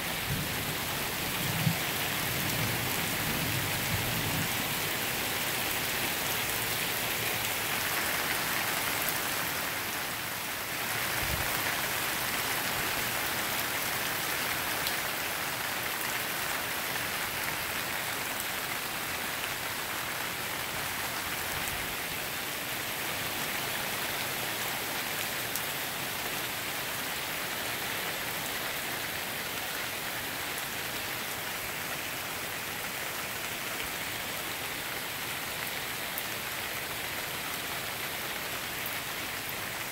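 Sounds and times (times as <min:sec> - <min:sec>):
heavy rain on pavement and trees: 0:00.0 - 0:39.9.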